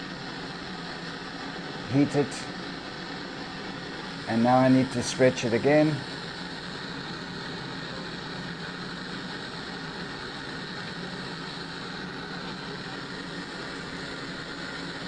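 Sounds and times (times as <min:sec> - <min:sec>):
gas burner flame rushing: 0:00.0 - 0:15.0.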